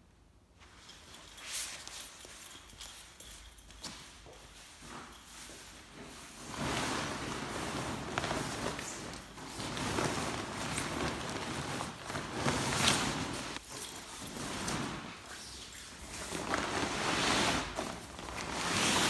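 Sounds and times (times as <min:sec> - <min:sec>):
sailcloth rustling and crinkling: 0:00.6 - 0:19.0.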